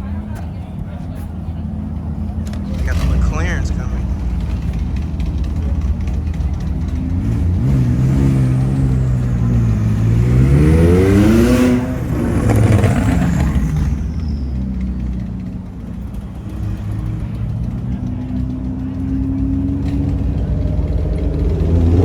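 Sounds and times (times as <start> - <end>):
low steady engine drone: 0.0 - 22.0
car engine accelerating past: 2.4 - 22.0.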